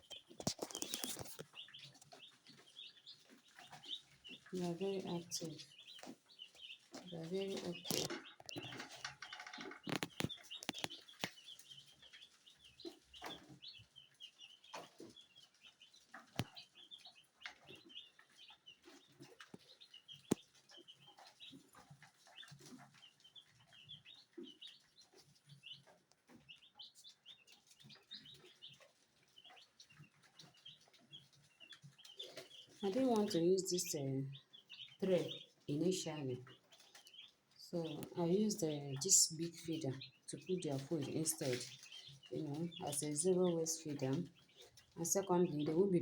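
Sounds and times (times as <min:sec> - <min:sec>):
chicks peeping: 0:00.0 - 0:46.0.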